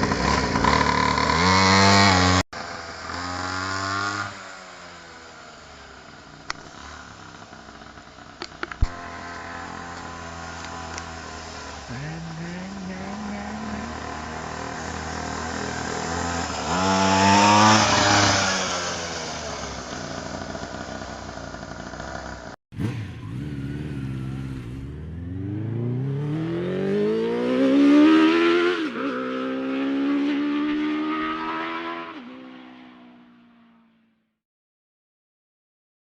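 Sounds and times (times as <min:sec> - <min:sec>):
motorcycle engines revving: 0:00.0 - 0:33.9.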